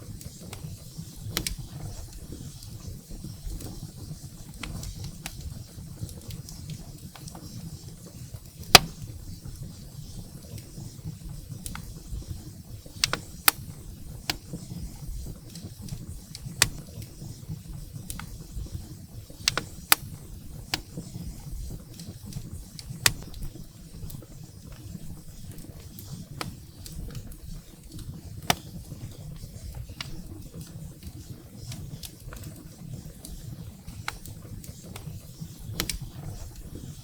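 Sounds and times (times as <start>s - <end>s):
firewood crackling and popping: 0.0s - 37.0s
low rumble of flames: 0.0s - 37.0s.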